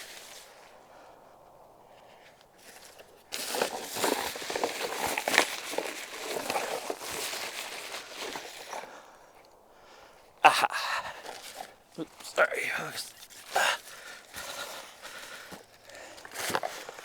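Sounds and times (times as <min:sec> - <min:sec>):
tent fabric rustling: 0:00.0 - 0:01.1, 0:01.8 - 0:09.4, 0:10.5 - 0:17.0.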